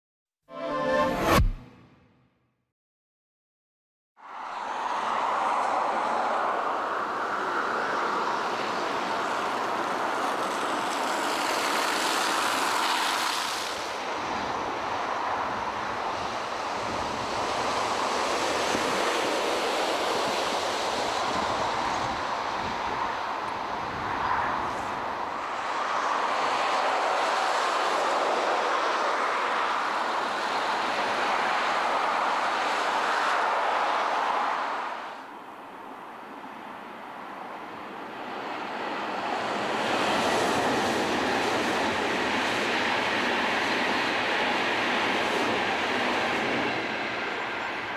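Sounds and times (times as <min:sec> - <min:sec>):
wind: 0:04.2 - 0:47.9.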